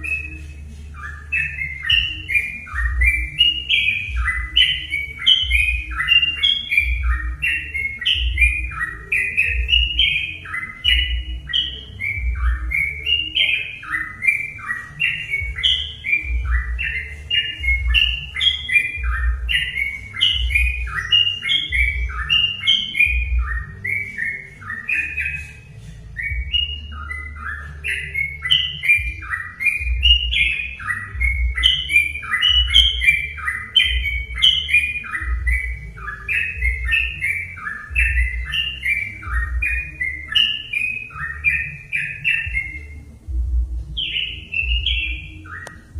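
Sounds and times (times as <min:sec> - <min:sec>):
bulbul singing: 0:00.0 - 0:45.9.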